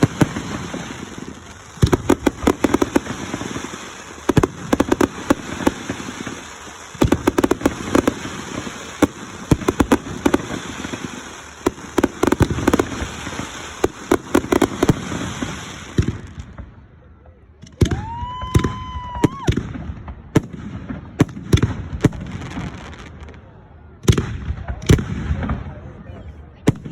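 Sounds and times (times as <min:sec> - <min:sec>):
fireworks bangs and crackling: 0:00.0 - 0:26.9.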